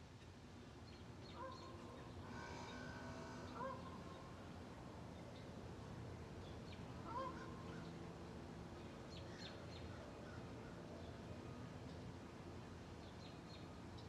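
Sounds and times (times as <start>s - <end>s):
low steady background hum: 0.0s - 14.0s.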